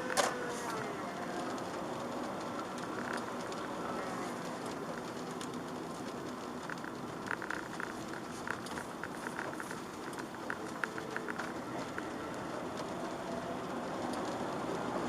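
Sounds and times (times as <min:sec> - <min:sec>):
raindrops tapping on car: 0:00.0 - 0:15.0
road and wet tyre noise: 0:00.0 - 0:15.0.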